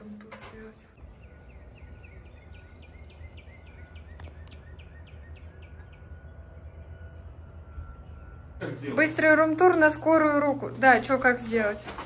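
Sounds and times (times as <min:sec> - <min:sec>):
songbirds chirping: 0:00.0 - 0:12.0
steady low rumble: 0:00.9 - 0:12.0.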